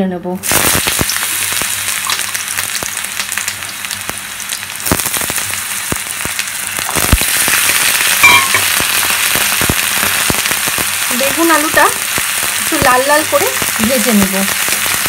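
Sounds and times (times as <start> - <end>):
vegetables sizzling in hot oil: 0.4 - 15.0.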